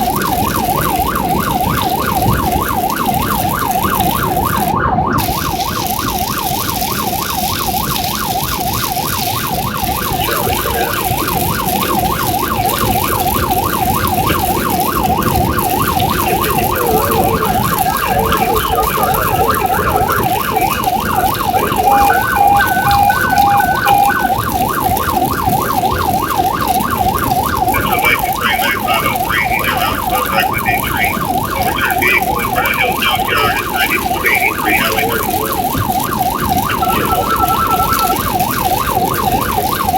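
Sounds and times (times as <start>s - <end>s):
emergency siren yelp: 0.0s - 39.9s
higher warbling siren tone: 0.0s - 39.9s
road and engine rumble: 0.0s - 39.9s
short steady siren tones: 0.0s - 39.9s.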